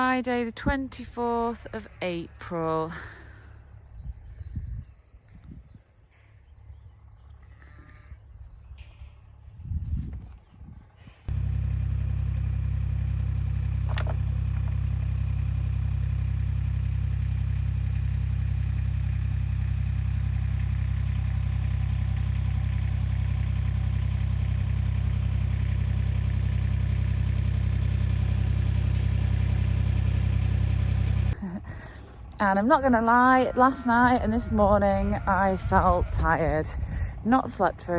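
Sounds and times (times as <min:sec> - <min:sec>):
vehicle engine idling: 0:06.0 - 0:37.9.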